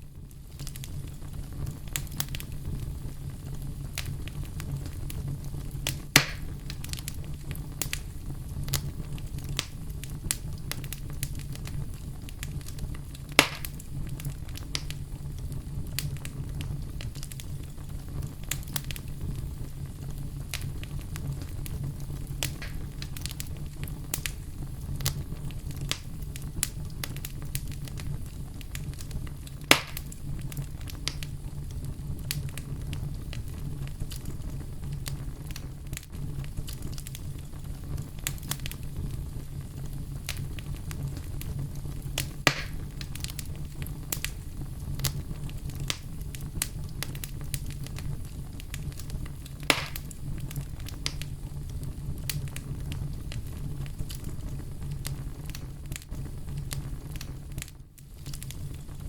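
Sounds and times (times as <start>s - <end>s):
fire crackling: 0.0s - 59.0s
low rumble of flames: 0.0s - 59.0s
loud fire pops: 0.1s - 59.0s.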